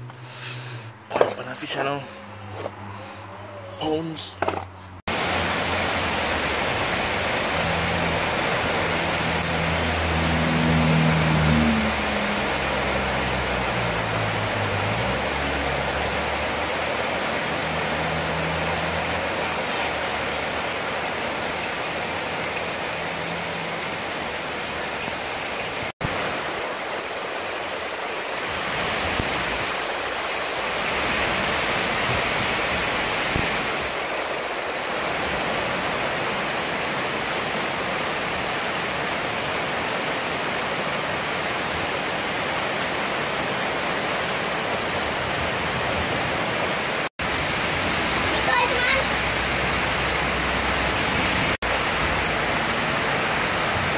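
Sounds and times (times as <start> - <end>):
rainwater running over mud: 5.0 - 53.9
steady rain falling: 5.0 - 53.9.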